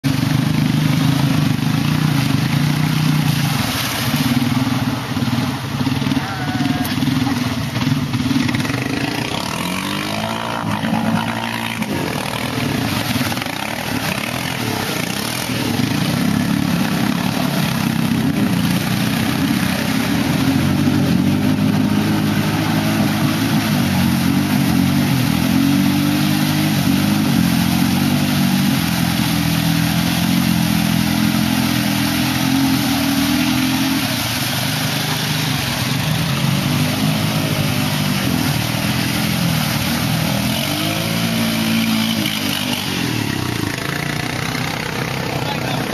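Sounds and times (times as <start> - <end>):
atv engine revving: 0.0 - 45.9
vehicle churning through mud and water: 0.0 - 45.9.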